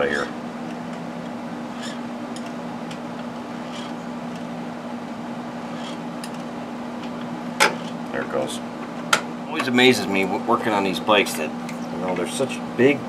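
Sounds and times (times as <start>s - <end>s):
shop background hum: 0.0s - 13.0s.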